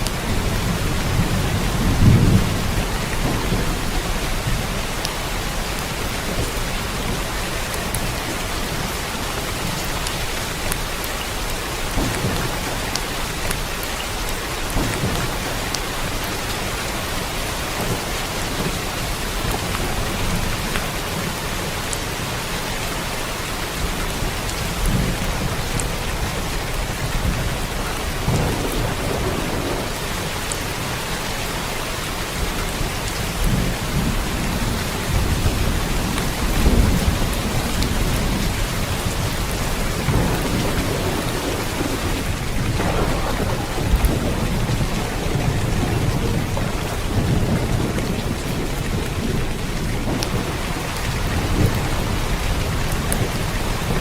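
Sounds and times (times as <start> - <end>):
low thunder rumbles: 0.0 - 22.3, 23.7 - 31.1, 32.1 - 54.0
steady rain hiss: 0.0 - 54.0.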